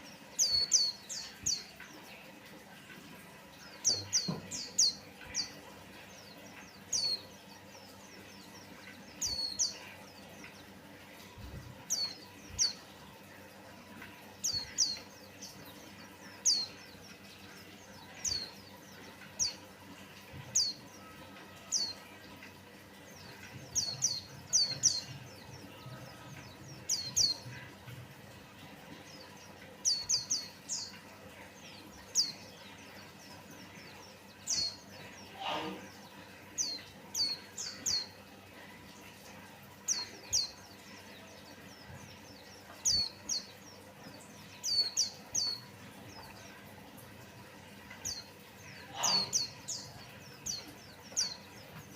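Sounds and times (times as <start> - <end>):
bird chirping: 0.0 - 47.2, 47.8 - 51.9
faint steady hum: 0.0 - 51.9.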